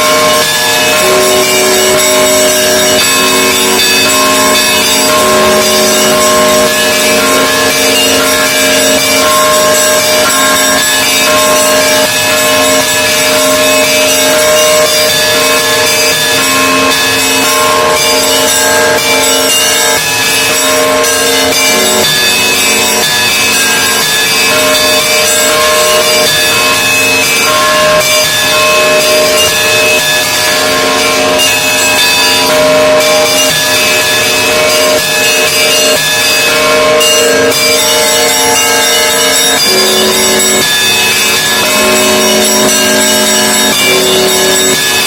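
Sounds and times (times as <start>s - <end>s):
church bells pealing: 0.0s - 45.0s.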